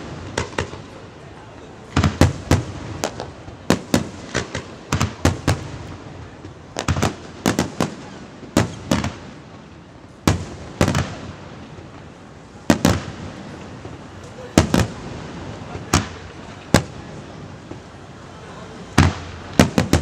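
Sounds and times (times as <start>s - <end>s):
fireworks bursting with booms: 0.0s - 20.0s.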